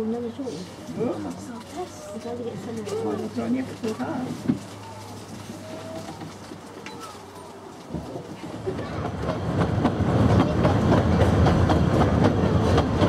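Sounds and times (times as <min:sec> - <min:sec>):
train wheels rattling on rails: 0:00.0 - 0:13.0.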